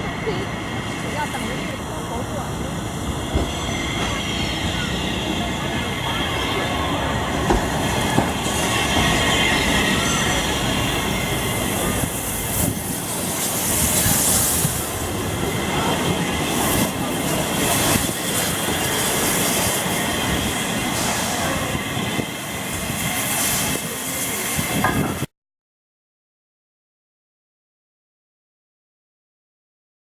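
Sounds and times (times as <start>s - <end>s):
train wheels rumbling on rails: 0.0s - 25.3s.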